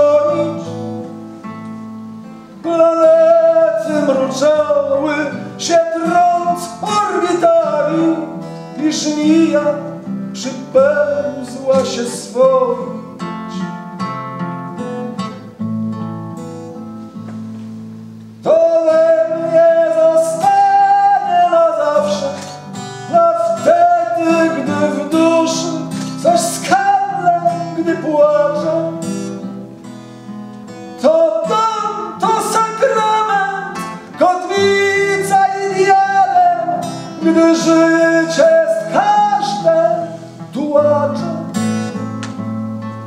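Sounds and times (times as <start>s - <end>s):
man singing: 0.0s - 1.1s, 2.5s - 14.2s, 18.4s - 29.5s, 31.0s - 42.1s
acoustic guitar strumming: 0.0s - 43.0s.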